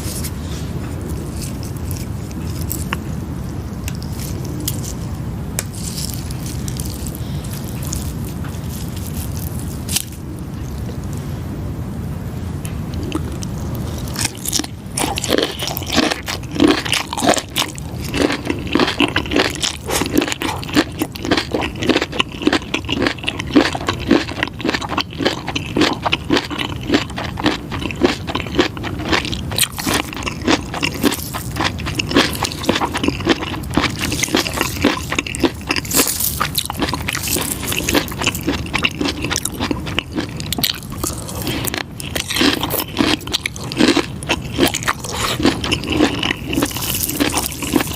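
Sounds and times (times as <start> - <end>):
chewing and biting: 0.9 - 5.0, 5.6 - 11.1, 12.9 - 47.9.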